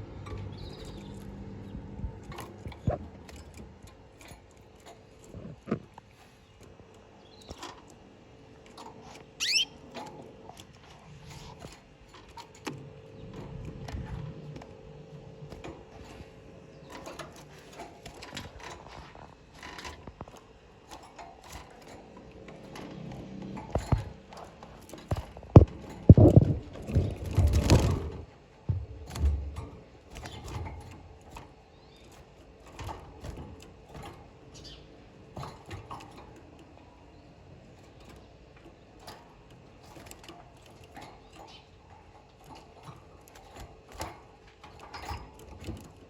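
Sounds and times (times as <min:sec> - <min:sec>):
birds moving with clicks and rustles: 0:00.0 - 0:46.0.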